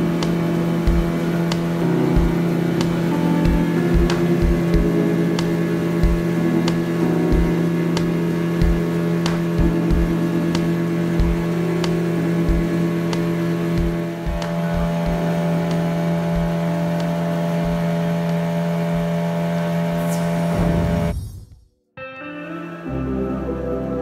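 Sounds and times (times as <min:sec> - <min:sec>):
motorboat engine running: 0:00.0 - 0:21.1
water wash: 0:00.0 - 0:21.1.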